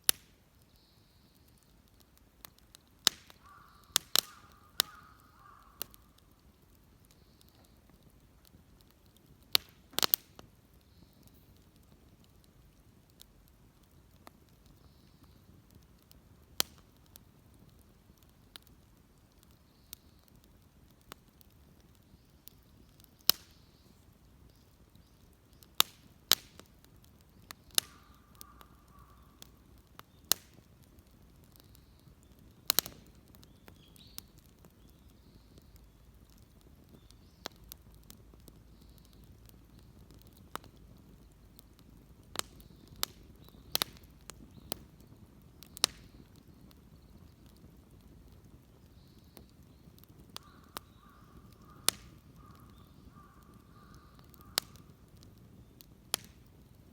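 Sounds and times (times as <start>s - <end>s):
bonfire crackling and popping: 0.0s - 56.9s
low steady hiss: 0.0s - 56.9s.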